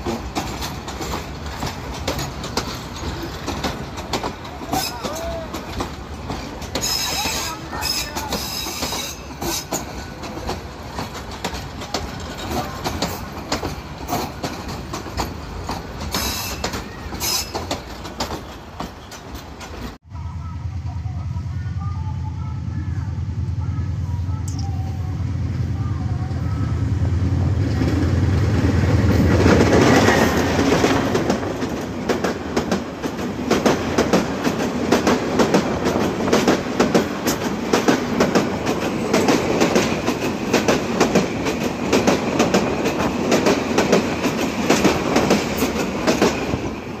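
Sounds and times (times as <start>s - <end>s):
wheels clacking over rail joints: 0.0s - 20.0s, 27.8s - 47.0s.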